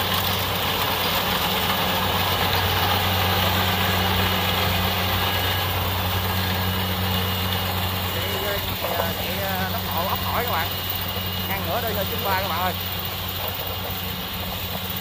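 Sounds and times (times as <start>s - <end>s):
diesel engine running under load: 0.0s - 15.0s
rush of threshing machinery: 0.0s - 15.0s.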